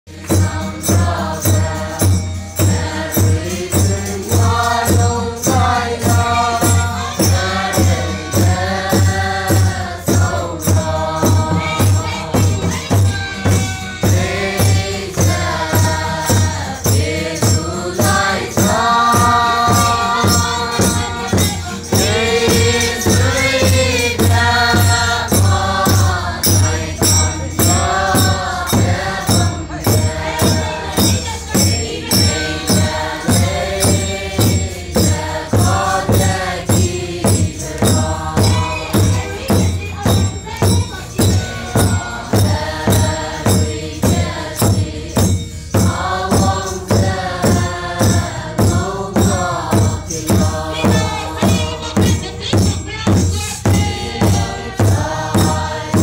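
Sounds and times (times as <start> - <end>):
group singing in unison: 0.0 - 56.0
steady beat: 0.1 - 56.0.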